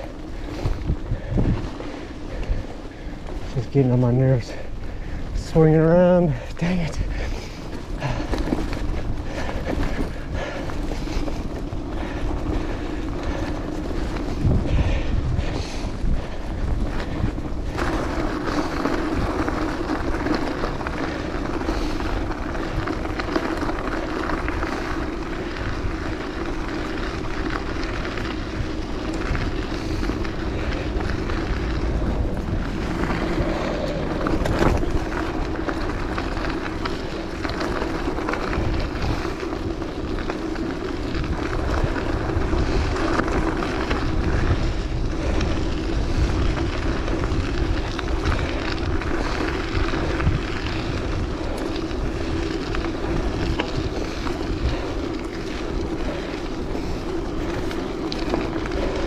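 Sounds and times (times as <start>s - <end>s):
bicycle tyres on gravel: 0.0s - 59.0s
wind rumbling on microphone: 0.0s - 59.0s.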